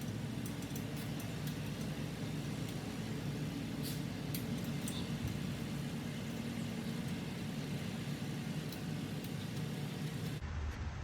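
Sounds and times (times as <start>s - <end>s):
low background hum: 0.0s - 10.4s.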